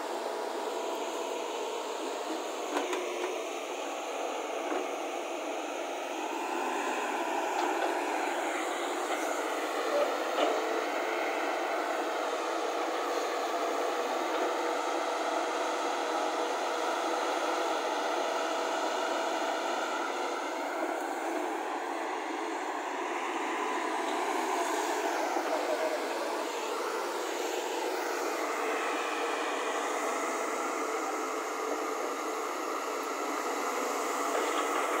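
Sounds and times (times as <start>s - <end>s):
excavator engine and hydraulics: 0.0s - 35.0s.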